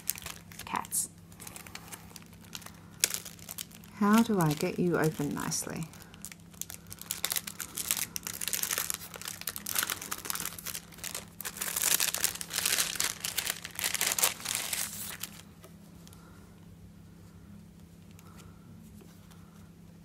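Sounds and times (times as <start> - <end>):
packaging crinkling and rustling: 0.0 - 16.2.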